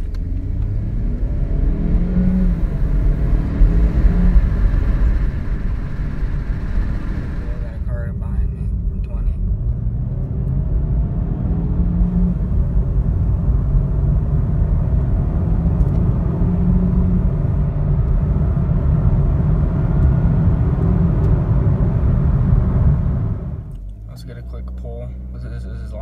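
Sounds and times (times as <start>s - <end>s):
car engine accelerating: 0.0s - 26.0s
road and wind rumble: 0.0s - 26.0s.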